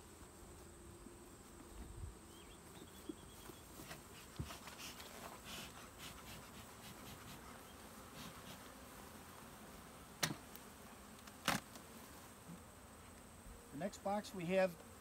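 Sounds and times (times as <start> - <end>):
bee smoker puffs: 0.0 - 15.0
bees buzzing: 0.0 - 15.0.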